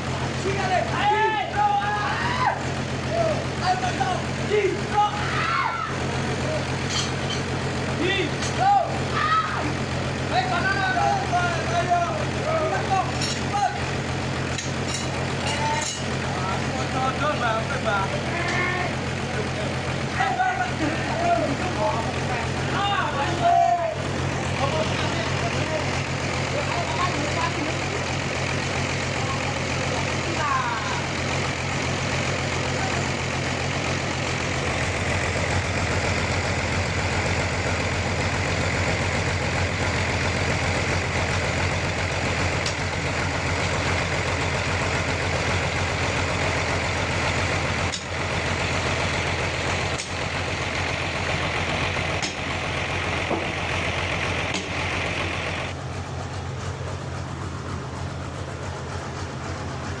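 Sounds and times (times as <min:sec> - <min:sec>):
sawmill engine hum: 0:00.0 - 1:00.0.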